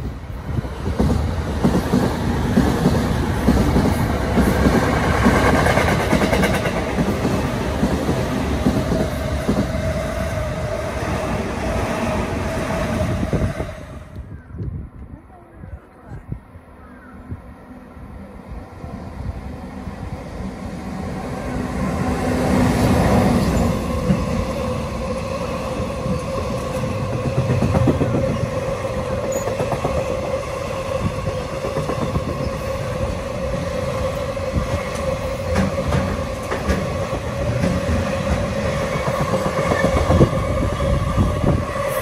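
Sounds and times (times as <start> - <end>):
wheels whining on rails: 0.0 - 14.4, 17.4 - 42.0.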